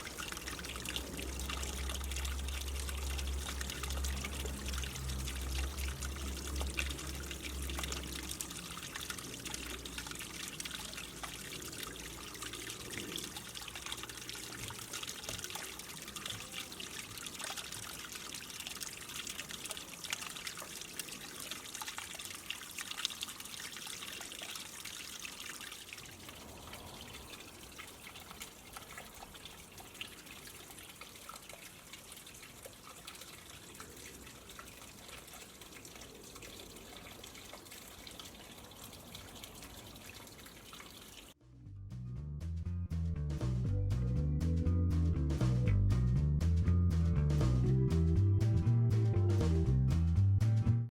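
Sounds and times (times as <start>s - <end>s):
water trickling into a pond: 0.0s - 41.4s.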